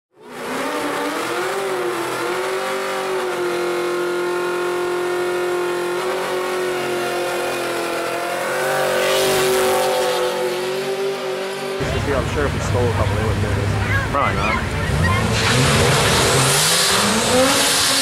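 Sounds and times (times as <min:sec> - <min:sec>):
car engine revving: 0:00.2 - 0:18.0.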